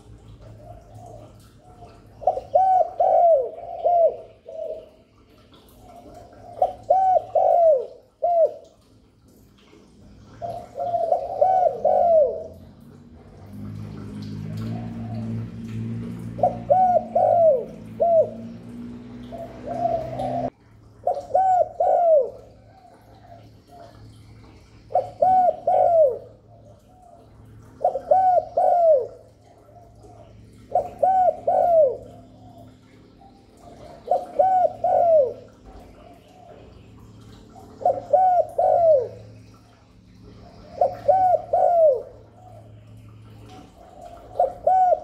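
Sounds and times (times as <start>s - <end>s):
dove cooing: 0.0s - 8.8s, 10.0s - 45.0s.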